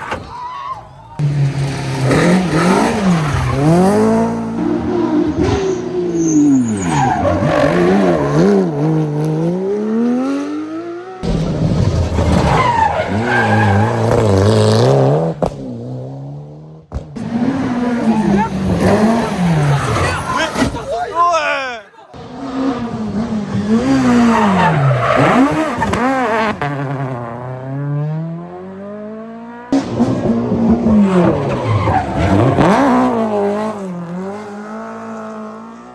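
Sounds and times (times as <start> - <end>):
tyres skidding: 0.0 - 35.9
rally car engines revving: 1.2 - 21.1, 22.1 - 35.9.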